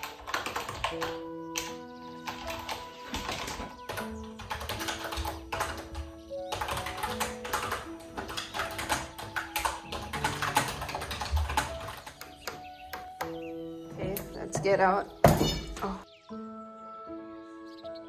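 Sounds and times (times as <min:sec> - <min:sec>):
background music with held notes: 0:00.0 - 0:18.0.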